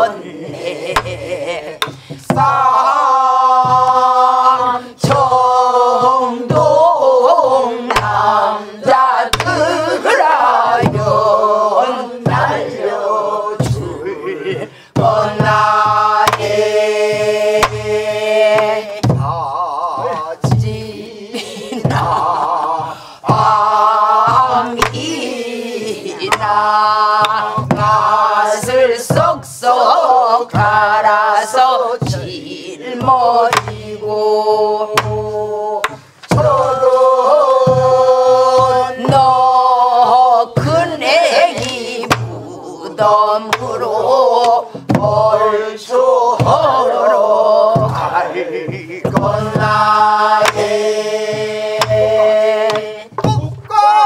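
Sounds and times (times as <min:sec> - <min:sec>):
barrel drums beating: 0:00.0 - 0:54.0
group singing folk song: 0:00.0 - 0:54.0.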